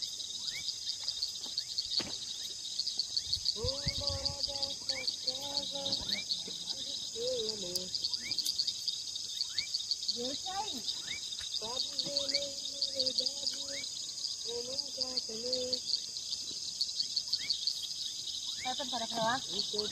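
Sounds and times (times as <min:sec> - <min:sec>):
insects trilling: 0:00.0 - 0:19.9.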